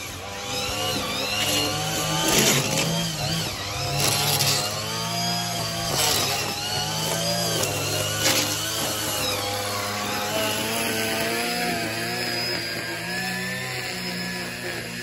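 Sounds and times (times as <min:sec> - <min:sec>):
lawn equipment engine running: 0:00.0 - 0:15.0.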